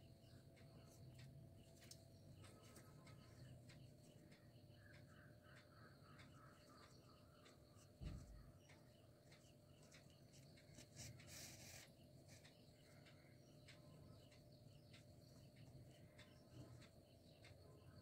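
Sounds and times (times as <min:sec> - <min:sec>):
faint ticks: 0:00.0 - 0:18.0.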